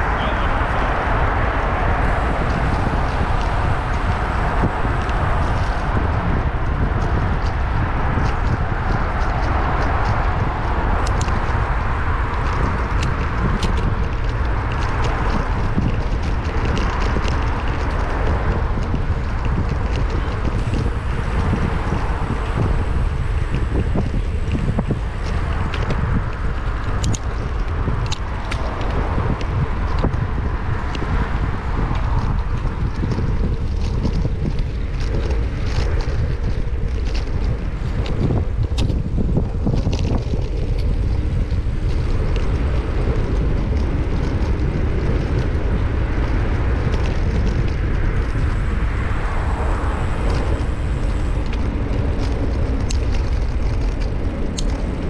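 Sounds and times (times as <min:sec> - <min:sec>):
bike ticks and rattles: 0:00.0 - 0:55.0
wind rushing over microphone: 0:00.0 - 0:55.0.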